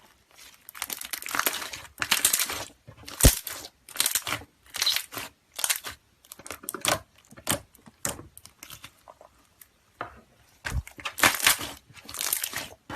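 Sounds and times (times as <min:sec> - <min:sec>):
slime crackling and popping: 0:00.3 - 0:09.8, 0:10.7 - 0:12.9.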